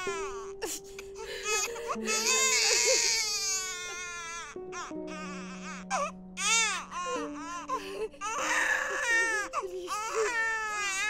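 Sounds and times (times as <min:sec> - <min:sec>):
baby crying: 0:00.0 - 0:11.0
soft music with held chords: 0:00.0 - 0:11.0.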